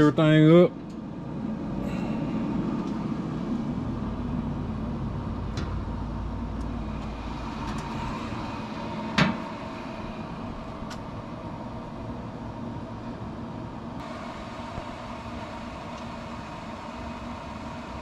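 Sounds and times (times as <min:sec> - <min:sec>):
fan whirring hum: 0:00.0 - 0:18.0.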